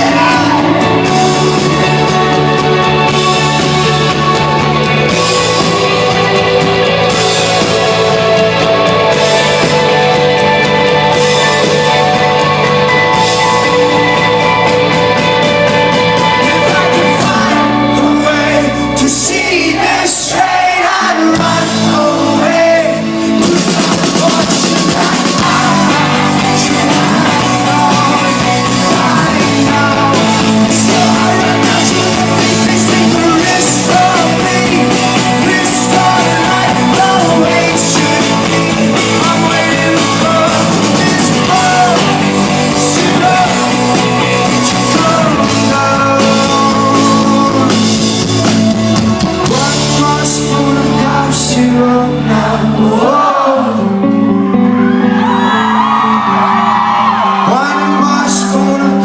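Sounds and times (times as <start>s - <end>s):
live rock band with singer: 0.0s - 59.0s.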